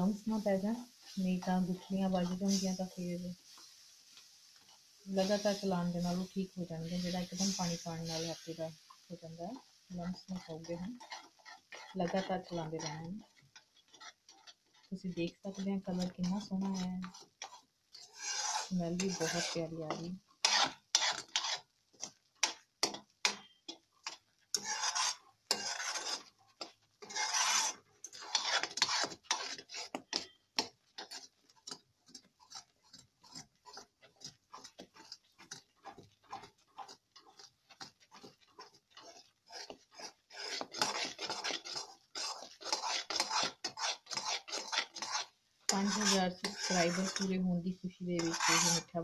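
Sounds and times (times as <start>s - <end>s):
metal ladle scraping metal pan: 0.0s - 49.0s.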